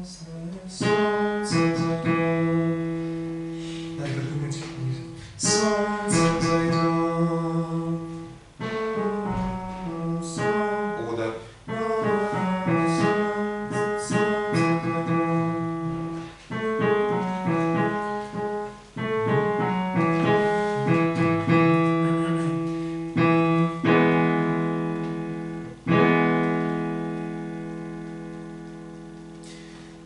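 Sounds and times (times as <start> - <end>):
piano playing: 0.0 - 30.0.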